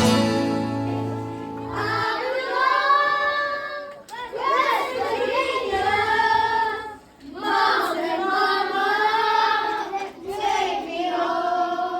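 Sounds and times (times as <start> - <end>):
children singing: 0.0 - 11.9.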